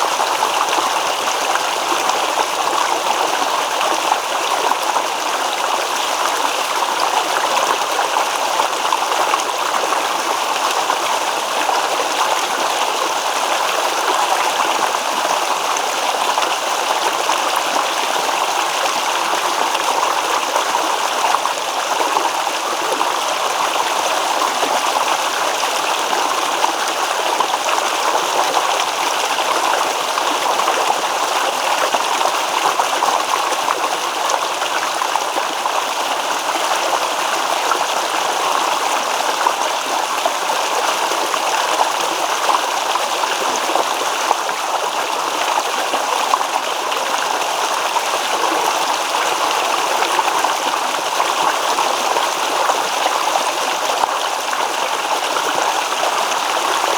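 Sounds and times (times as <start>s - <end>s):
stream babbling over stones: 0.0s - 56.9s.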